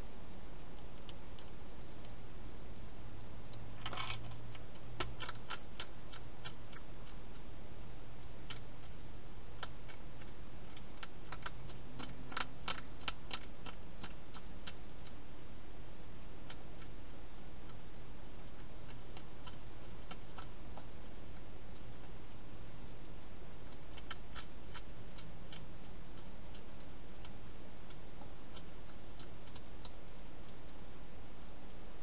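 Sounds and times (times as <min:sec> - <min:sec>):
faint low hum: 0:00.0 - 0:32.0
hedgehog chewing dry food: 0:00.7 - 0:02.3, 0:03.0 - 0:32.0.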